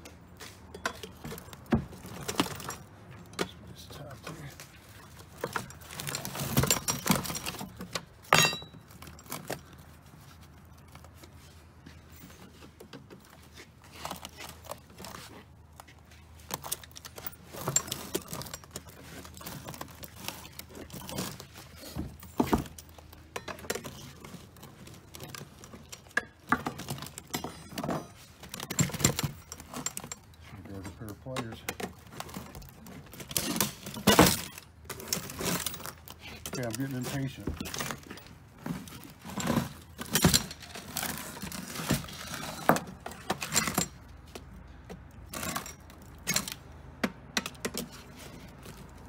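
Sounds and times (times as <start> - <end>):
metal clinks and rattles: 0.3 - 46.8.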